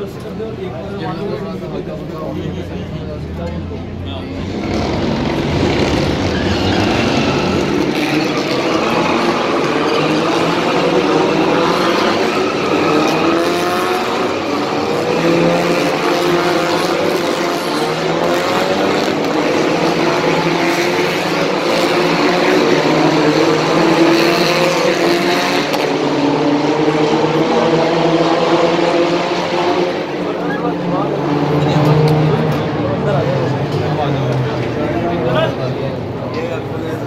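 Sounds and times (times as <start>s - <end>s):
racing car engines revving: 0.0s - 37.0s.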